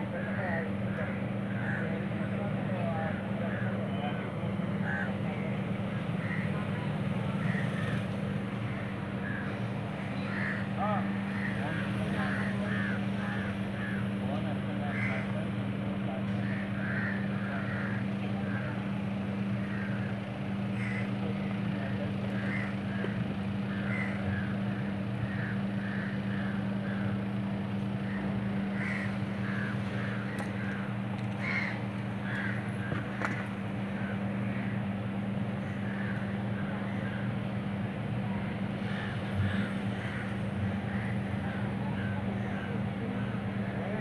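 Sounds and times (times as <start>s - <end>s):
birds calling: 0.0s - 44.0s
steady low hum: 0.0s - 44.0s.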